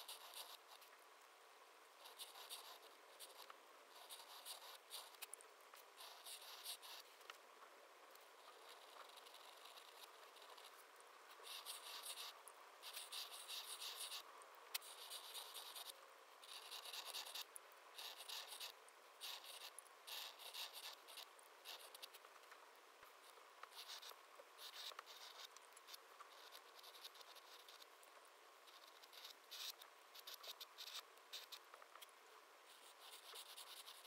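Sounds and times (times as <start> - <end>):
pen nib scratching paper: 0.0 - 0.9, 2.0 - 7.1, 8.4 - 22.2, 23.2 - 28.0, 28.6 - 31.6, 32.7 - 34.0.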